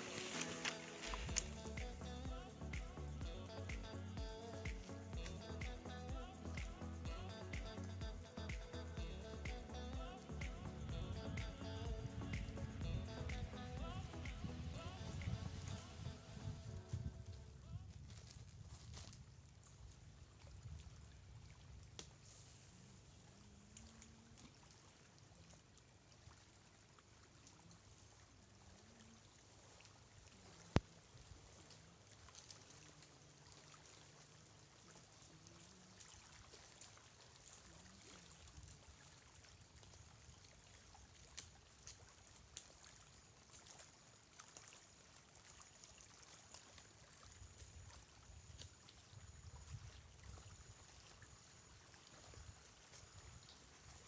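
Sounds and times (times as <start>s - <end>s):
faint seawater washing at shore: 0.0s - 54.0s.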